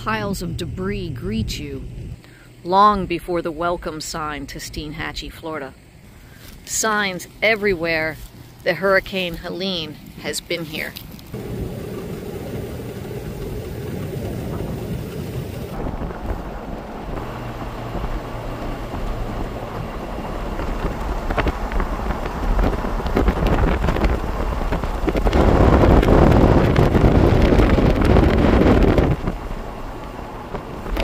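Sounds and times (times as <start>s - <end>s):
car road and wind noise: 0.0s - 2.2s, 7.8s - 31.0s.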